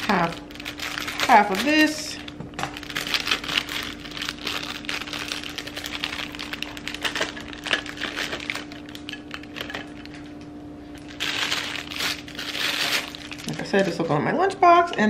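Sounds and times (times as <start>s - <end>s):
plastic packet crinkling: 0.0s - 14.0s
steady low hum: 0.0s - 15.0s.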